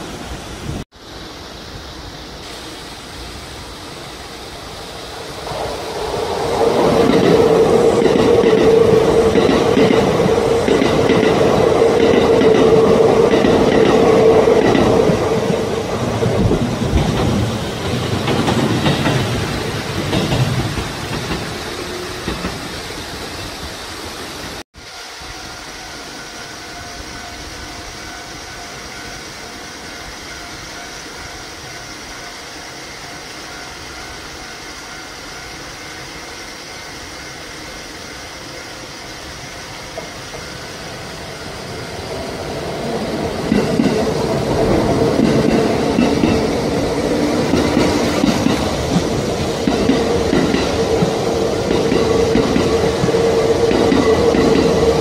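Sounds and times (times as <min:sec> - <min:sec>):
electric trains passing: 0:00.0 - 0:55.0
low rail-side noise: 0:00.0 - 0:55.0.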